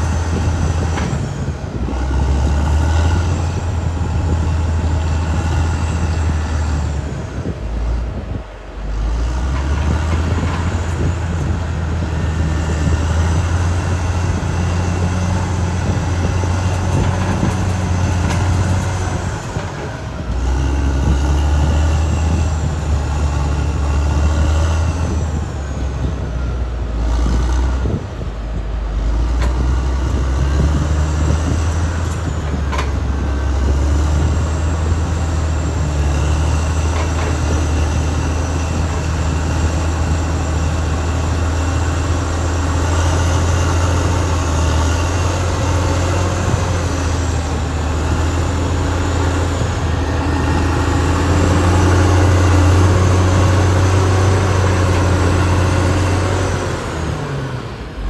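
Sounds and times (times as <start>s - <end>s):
bulldozer diesel engine drone: 0.0s - 58.0s
running gear whine: 0.0s - 58.0s.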